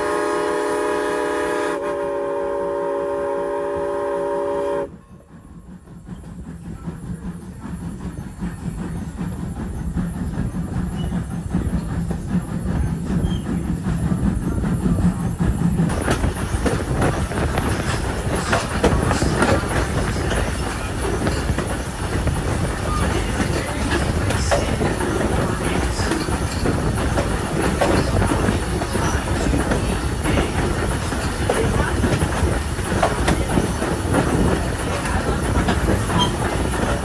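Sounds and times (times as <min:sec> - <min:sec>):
train rumbling along track: 0:00.0 - 0:37.0
wheels clicking over rail joints: 0:05.5 - 0:37.0.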